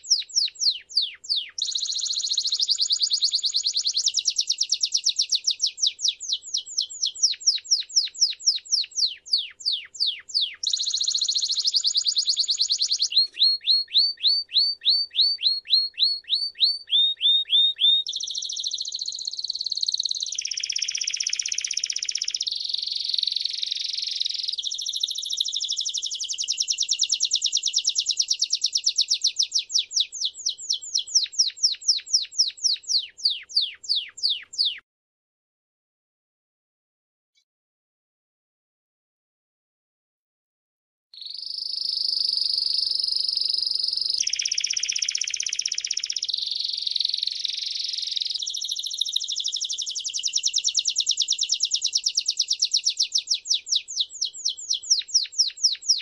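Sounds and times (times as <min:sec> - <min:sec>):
canary singing: 0:00.0 - 0:34.8, 0:41.2 - 0:56.0.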